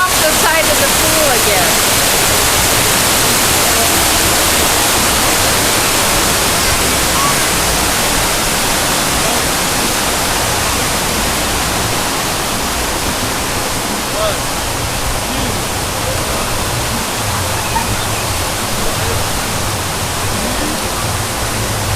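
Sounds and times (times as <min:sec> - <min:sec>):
waterfall pouring: 0:00.0 - 0:21.9.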